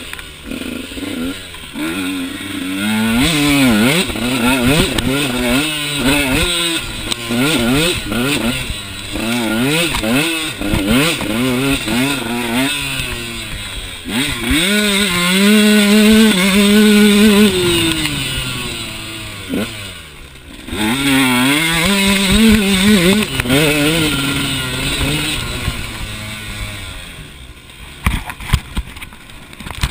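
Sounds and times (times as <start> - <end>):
dirt bike engine revving: 0.0 - 29.2.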